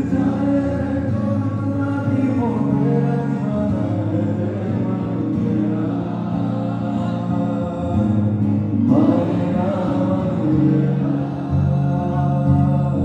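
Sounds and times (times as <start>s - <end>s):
guitar accompaniment: 0.0s - 13.0s
man singing into a microphone: 0.0s - 13.0s.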